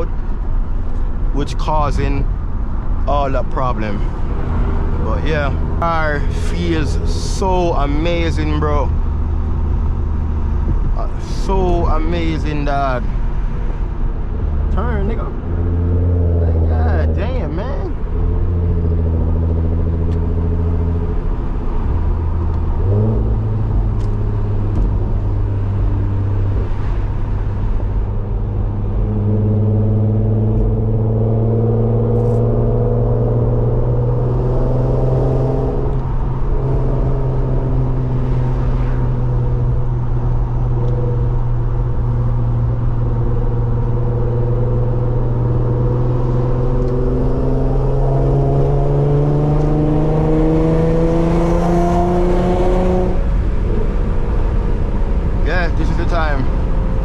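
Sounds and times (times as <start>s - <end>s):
car engine with loud exhaust: 0.0s - 57.0s.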